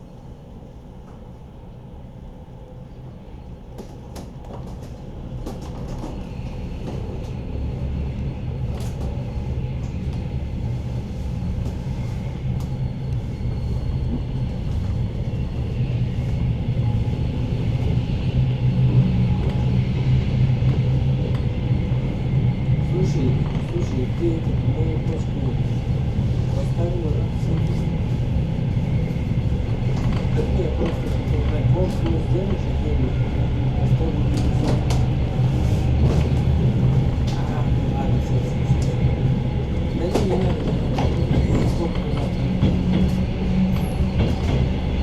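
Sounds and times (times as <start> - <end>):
train running rumble: 0.0 - 45.0.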